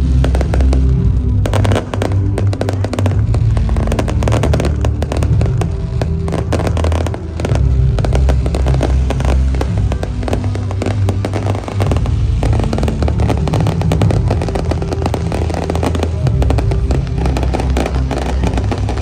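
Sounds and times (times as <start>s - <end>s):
fireworks crackling and popping: 0.0s - 19.0s
music with heavy bass: 0.0s - 19.0s.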